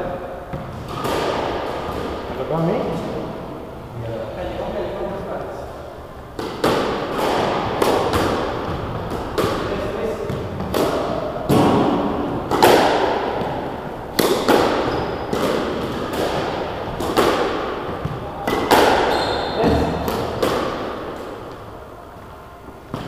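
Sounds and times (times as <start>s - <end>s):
rackets striking squash ball: 0.5s - 3.6s, 6.0s - 23.0s.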